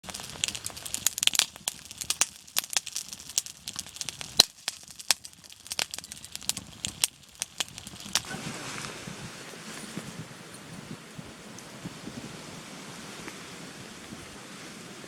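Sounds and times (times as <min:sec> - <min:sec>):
sharp fire pops: 0:00.0 - 0:12.4
campfire crackling: 0:00.0 - 0:15.0.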